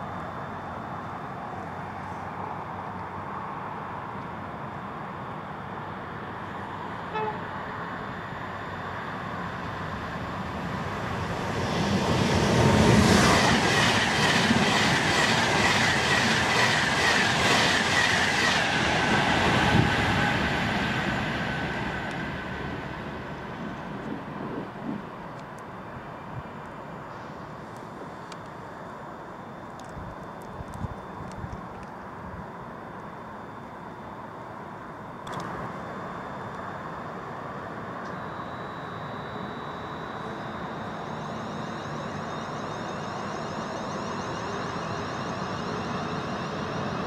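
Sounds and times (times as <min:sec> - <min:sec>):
electric train passing: 0:00.0 - 0:47.0
high train whine: 0:00.0 - 0:47.0.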